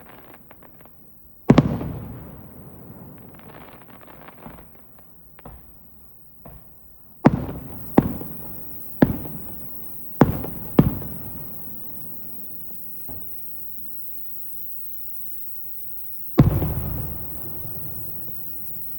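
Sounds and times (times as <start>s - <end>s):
firework booms: 0.0s - 5.8s, 6.4s - 18.9s
firework crackling and pops: 0.0s - 18.9s.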